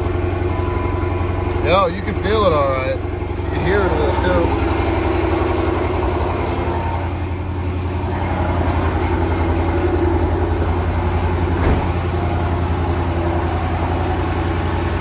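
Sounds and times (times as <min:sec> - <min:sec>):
car engine idling with misfire: 0:00.0 - 0:15.0.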